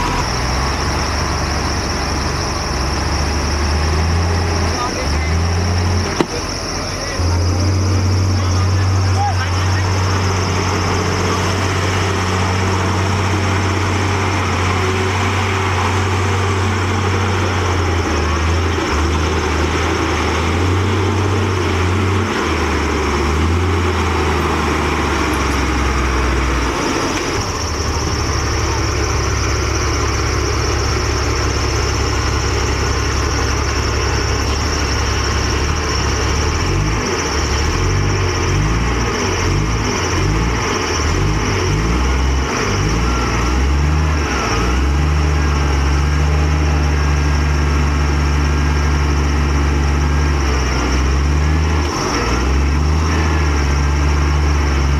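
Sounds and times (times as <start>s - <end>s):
bulldozer diesel engine running hard: 0.0s - 54.9s.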